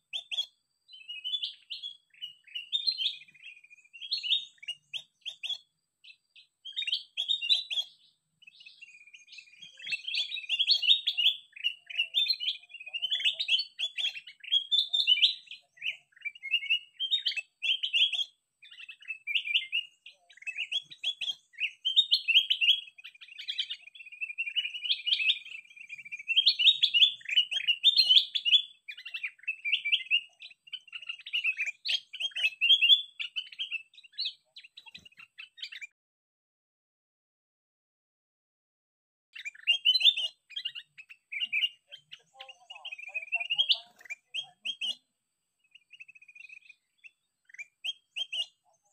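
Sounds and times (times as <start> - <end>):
recorded bird song chirps and whistles: 0.0 - 36.0, 39.3 - 48.9.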